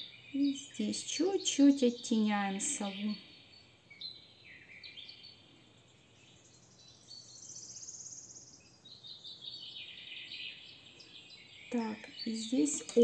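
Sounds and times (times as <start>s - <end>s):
small bird trilling and chirping: 0.0s - 13.0s.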